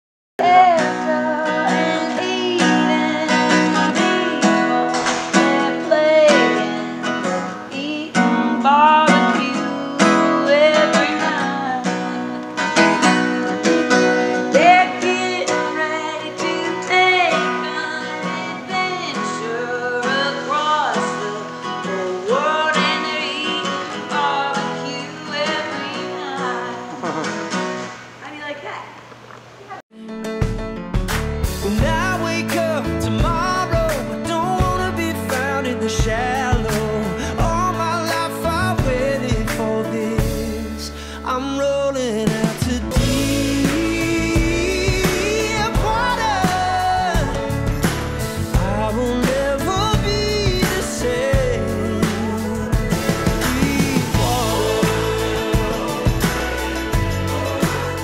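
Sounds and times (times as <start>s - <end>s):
person singing: 0.4s - 27.5s, 31.6s - 58.0s
strummed acoustic guitar: 0.4s - 28.1s, 30.0s - 58.0s.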